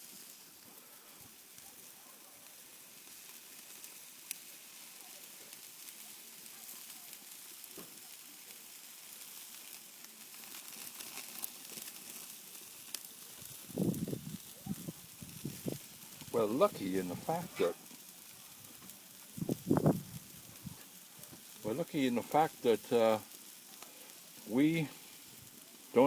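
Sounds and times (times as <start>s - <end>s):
chicken sizzling on a grill: 0.0s - 26.0s
wood fire crackling and popping: 0.0s - 26.0s.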